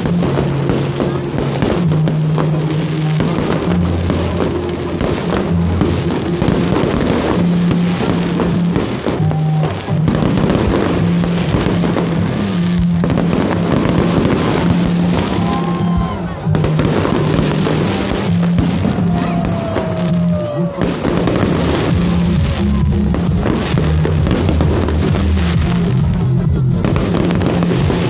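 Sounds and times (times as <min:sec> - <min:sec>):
fireworks bangs and crackles: 0:00.0 - 0:28.0
loud music with heavy bass: 0:00.0 - 0:28.0.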